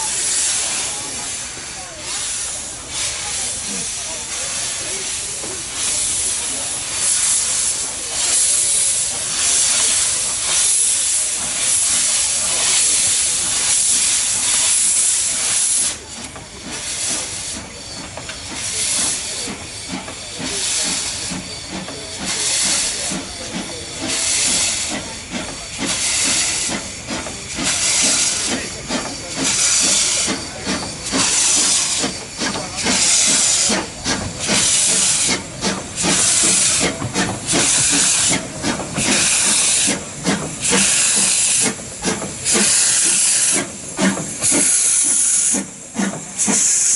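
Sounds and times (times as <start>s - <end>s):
steam locomotive hissing: 0.0s - 46.9s
steam locomotive puffing: 0.0s - 46.9s.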